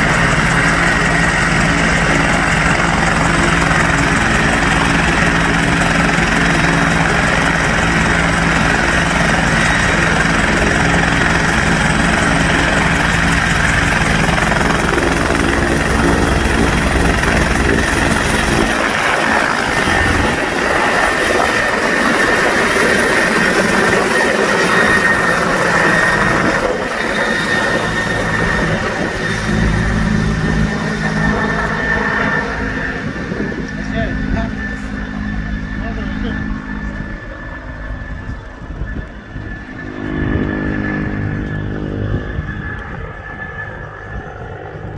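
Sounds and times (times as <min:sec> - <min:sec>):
helicopter turbine whine: 0:00.0 - 0:44.9.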